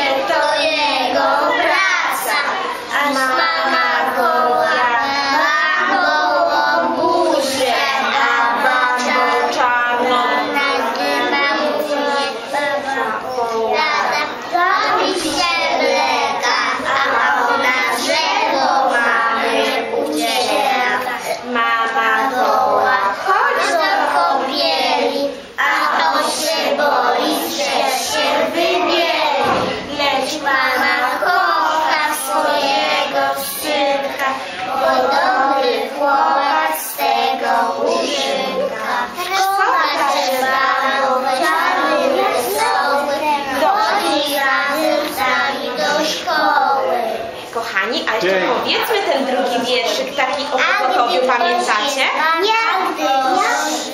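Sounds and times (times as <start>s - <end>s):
children chanting together: 0.0s - 47.5s, 50.8s - 53.9s.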